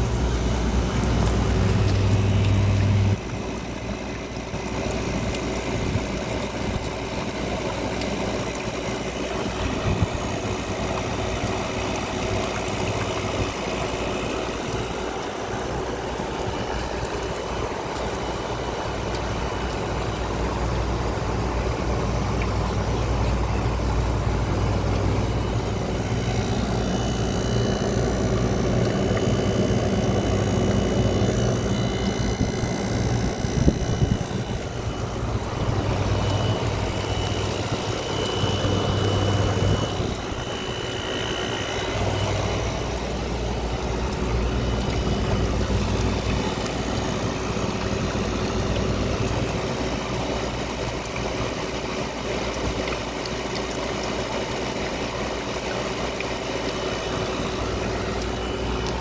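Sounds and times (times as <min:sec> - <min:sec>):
low hum: 0:00.0 - 0:51.6
air conditioner airflow: 0:00.0 - 0:59.0.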